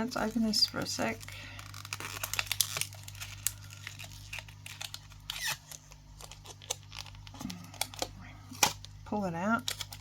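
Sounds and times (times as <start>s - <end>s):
packaging crinkling and tearing: 0.0s - 9.0s, 9.6s - 10.0s.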